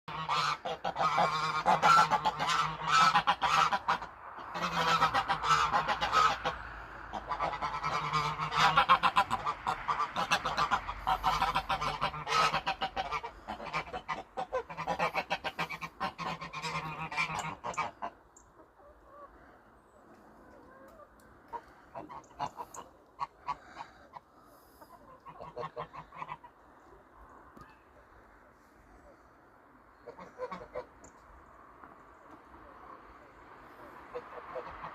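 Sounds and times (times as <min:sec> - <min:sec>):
geese honking: 0:00.1 - 0:19.5, 0:20.5 - 0:26.9, 0:29.9 - 0:31.1, 0:33.6 - 0:34.9.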